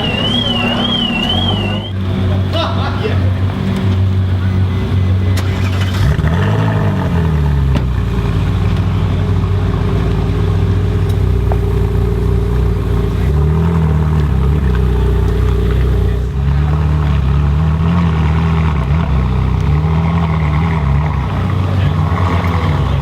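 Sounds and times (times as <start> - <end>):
car engine idling and blipped: 0.0 - 23.0.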